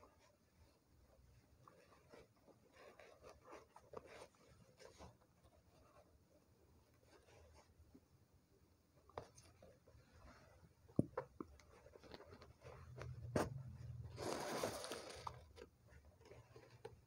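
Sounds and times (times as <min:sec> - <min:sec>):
ribbon rustling through cloth: 0:00.0 - 0:07.8, 0:09.0 - 0:17.0.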